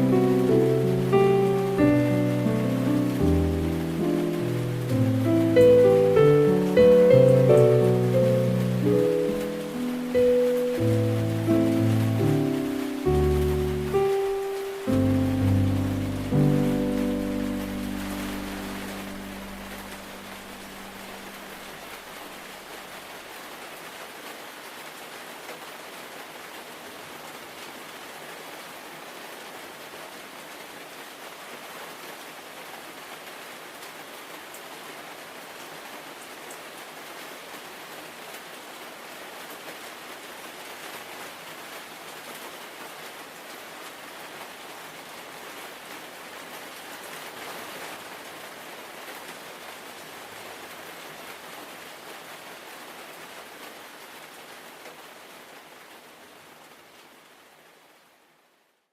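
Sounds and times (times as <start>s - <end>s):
rain falling on large leaves: 0.0s - 58.9s.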